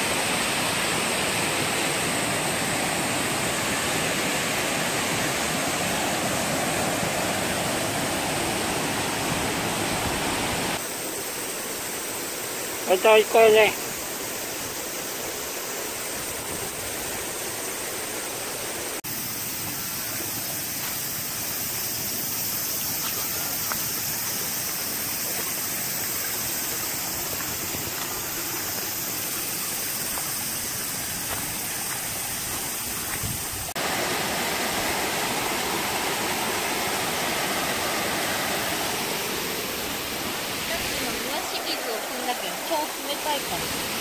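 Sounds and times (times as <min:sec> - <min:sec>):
water rushing over rocks: 0:00.0 - 0:44.0.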